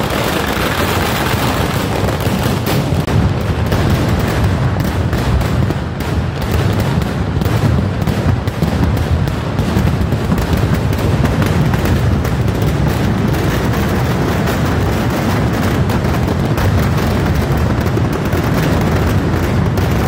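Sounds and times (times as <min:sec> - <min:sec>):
firecracker barrage: 0:00.0 - 0:20.0.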